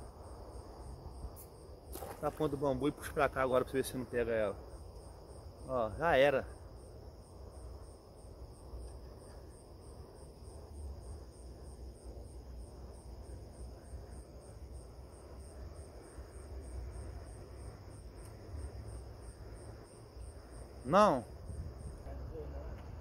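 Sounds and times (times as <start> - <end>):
continuous high insect trill: 0.0 - 23.0
insect chirping in pulses: 0.0 - 23.0.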